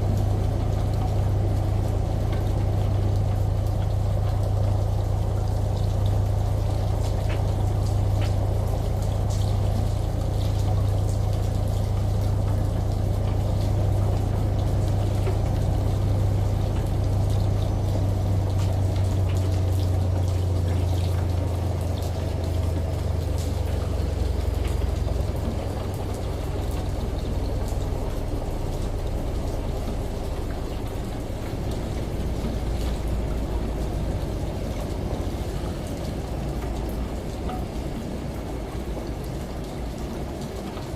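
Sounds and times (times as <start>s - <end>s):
rain and running water: 0.0s - 40.9s
washing machine humming: 0.0s - 40.9s.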